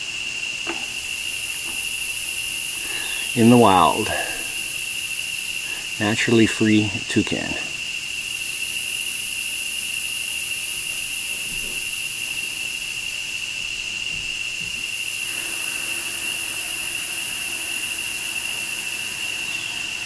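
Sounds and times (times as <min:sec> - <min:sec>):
high insect hiss: 0:00.0 - 0:20.0
insect high-pitched whine: 0:00.0 - 0:20.0.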